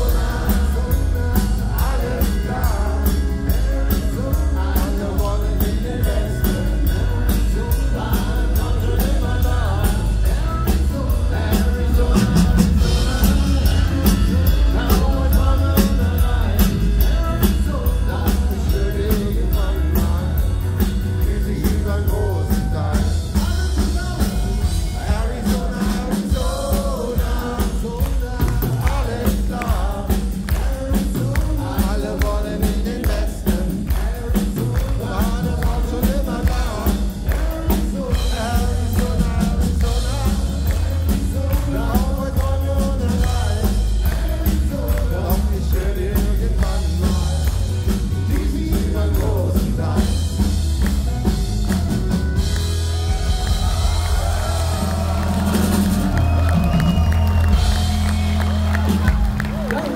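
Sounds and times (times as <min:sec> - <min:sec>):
person singing lead vocal: 0:00.0 - 0:50.9
country rock band playing: 0:00.0 - 0:59.9
steady drum beat: 0:00.0 - 0:59.9.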